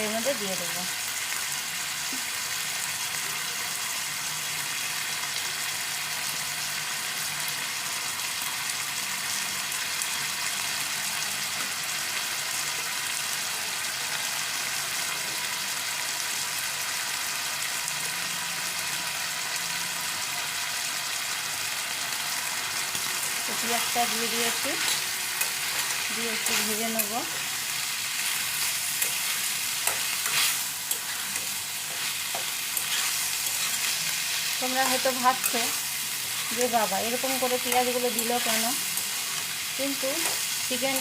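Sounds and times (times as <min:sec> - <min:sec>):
chicken and onion sizzling in oil: 0:00.0 - 0:41.0.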